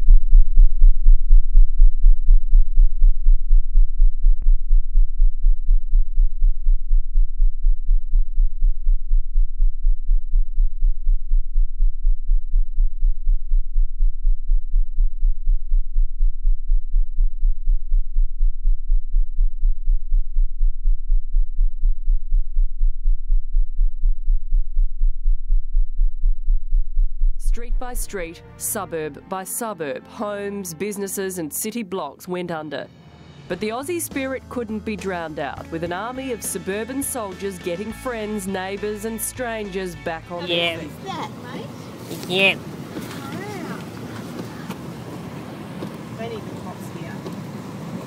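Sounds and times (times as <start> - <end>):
deep throbbing pulse: 0.0 - 31.7, 32.7 - 40.8.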